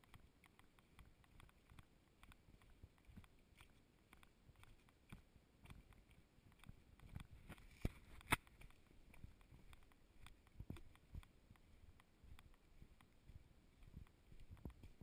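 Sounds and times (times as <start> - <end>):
footsteps on dirt trail: 0.0 - 15.0.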